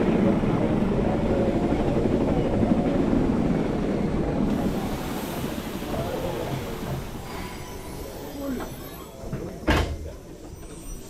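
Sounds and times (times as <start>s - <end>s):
electric railcar rumbling: 0.0s - 11.0s.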